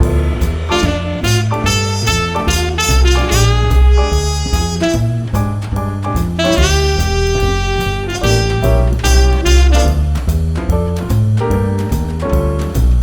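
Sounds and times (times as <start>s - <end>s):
swing jazz with saxophone and brass: 0.0s - 13.0s.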